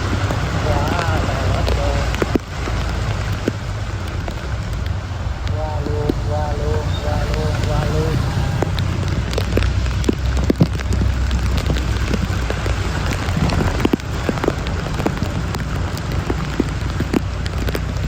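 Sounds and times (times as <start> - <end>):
heavy rain pouring: 0.0 - 18.0
low rumble: 0.0 - 18.0
raindrops striking close by: 0.0 - 18.0.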